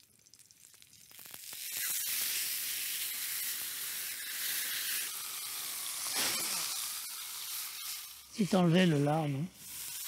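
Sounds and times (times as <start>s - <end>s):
fat sizzling in frying pan: 0.0s - 10.0s.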